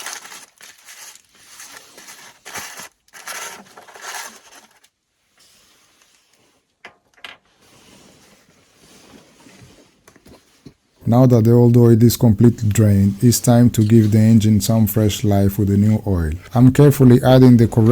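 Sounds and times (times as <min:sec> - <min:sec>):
scraping and rustling handling: 0:00.0 - 0:06.8, 0:07.4 - 0:17.9.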